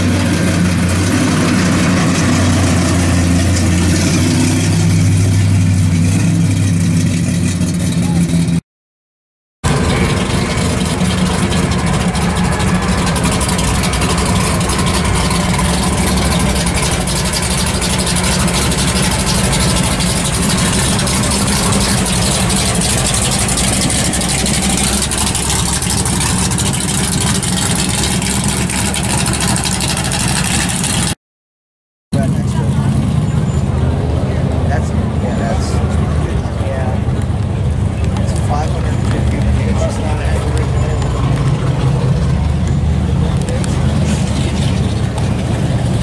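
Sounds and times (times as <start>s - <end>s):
car engine idling rumble: 2.5s - 8.6s, 9.6s - 31.2s, 32.2s - 46.0s.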